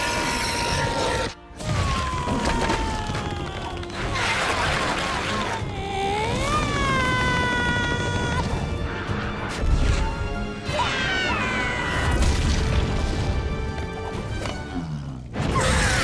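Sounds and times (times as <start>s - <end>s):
cartoon action music: 0.0s - 13.5s.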